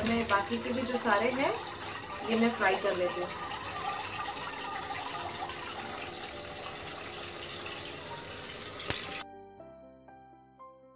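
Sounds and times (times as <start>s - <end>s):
deep-frying sizzle: 0.0s - 9.2s
soft piano-like music: 0.0s - 10.9s.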